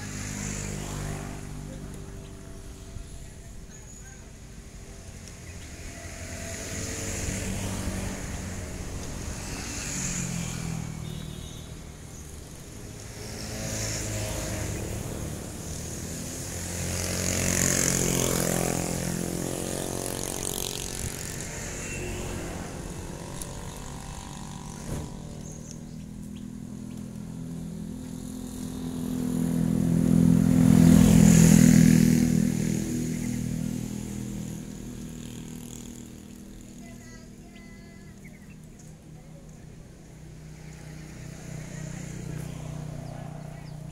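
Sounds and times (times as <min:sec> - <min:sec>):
vehicles passing by: 0:00.0 - 0:43.9.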